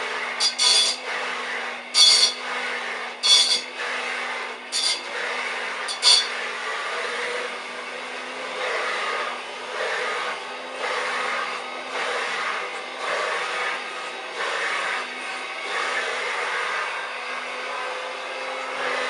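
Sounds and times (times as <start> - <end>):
handheld vacuum cleaner running: 0.0 - 19.0.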